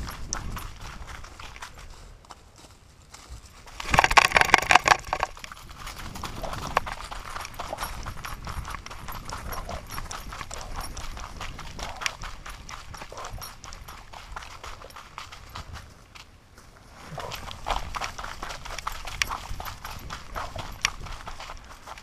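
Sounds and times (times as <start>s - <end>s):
dog paws crunching dry leaves: 0.1s - 16.1s, 16.7s - 22.0s.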